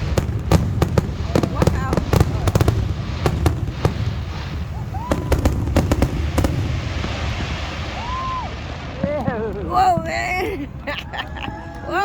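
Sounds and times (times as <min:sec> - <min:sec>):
fireworks booms: 0:00.0 - 0:12.0
fireworks crackling pops: 0:00.0 - 0:12.0.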